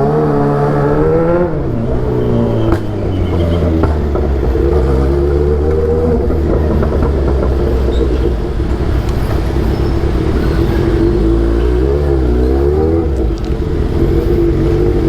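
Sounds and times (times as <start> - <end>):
motorcycle engine running: 2.8 - 15.0.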